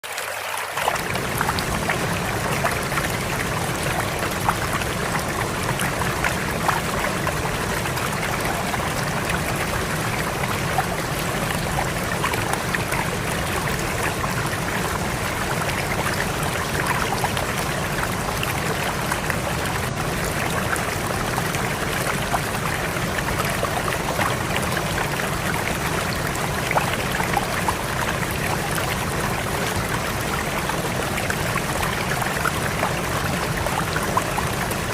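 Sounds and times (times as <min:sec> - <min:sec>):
water splashes: 0:00.0 - 0:34.9.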